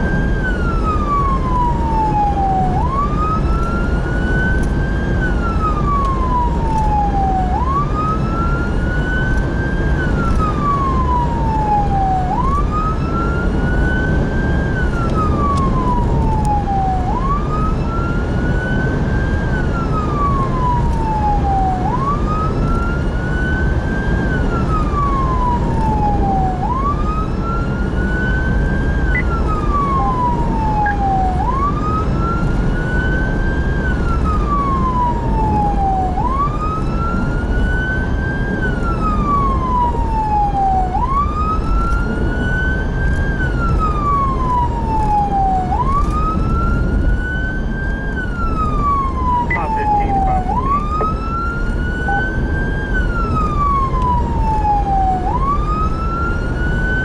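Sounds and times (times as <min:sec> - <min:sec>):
emergency siren wailing: 0:00.0 - 0:57.0
vehicle engine and road noise: 0:00.0 - 0:57.0.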